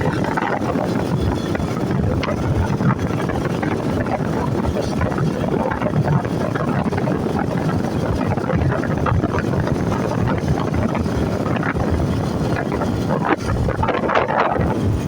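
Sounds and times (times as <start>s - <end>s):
engine and road rumble: 0.0s - 15.0s
wind buffeting microphone: 0.0s - 15.0s.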